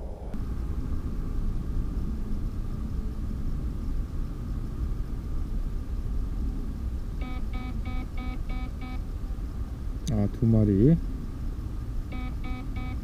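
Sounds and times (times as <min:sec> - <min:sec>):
faint high hum: 0:00.0 - 0:13.0
low outdoor rumble: 0:00.0 - 0:13.0.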